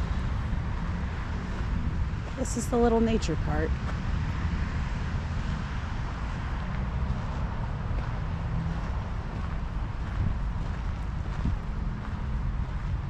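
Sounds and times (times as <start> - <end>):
tyres rolling on path: 0.0 - 13.0
wind buffeting microphone: 0.0 - 13.0.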